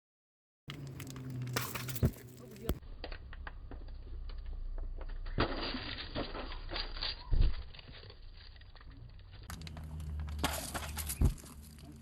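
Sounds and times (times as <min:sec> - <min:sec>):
rustling and crinkling: 0:00.7 - 0:12.0.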